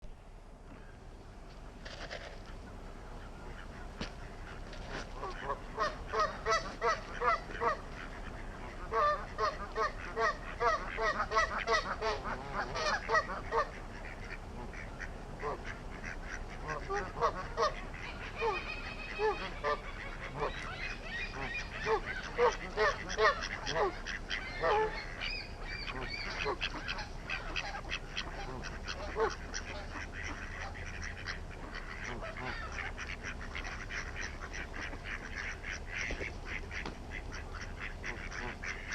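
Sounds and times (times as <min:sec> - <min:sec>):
geese honking: 0:01.9 - 0:38.9.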